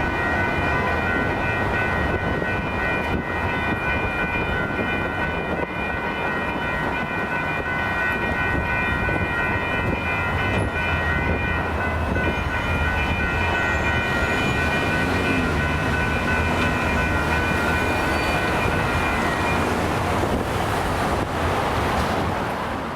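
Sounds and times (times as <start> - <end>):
crossing signal bells ringing: 0.0 - 21.3
freight train rumble: 0.0 - 22.9.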